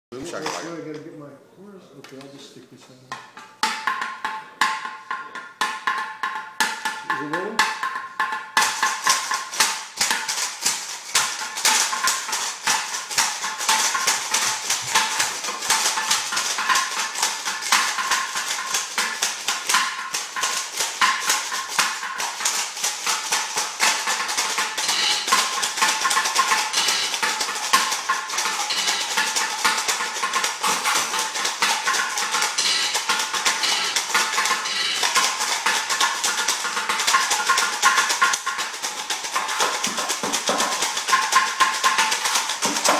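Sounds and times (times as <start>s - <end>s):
metal pots rattling as percussion: 3.1s - 42.9s.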